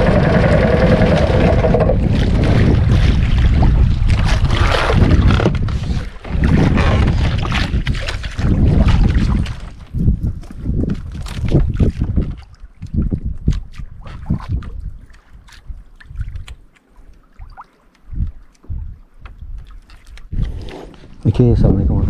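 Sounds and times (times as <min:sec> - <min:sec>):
wind buffeting microphone: 0:00.0 - 0:16.6, 0:18.0 - 0:22.0
water washing against boat hull: 0:00.0 - 0:21.3.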